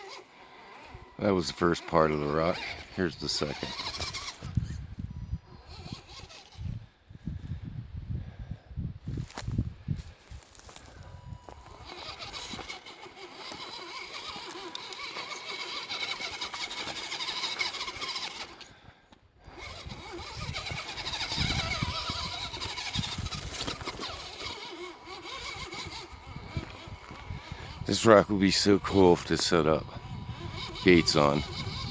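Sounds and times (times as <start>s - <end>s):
electric motor and gearbox whining: 0.0s - 31.9s.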